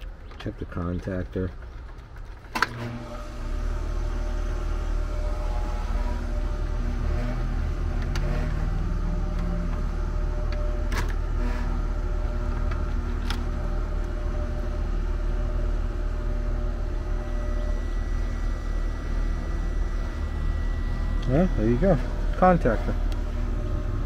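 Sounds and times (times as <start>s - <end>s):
steady low rumble: 3.7s - 24.0s.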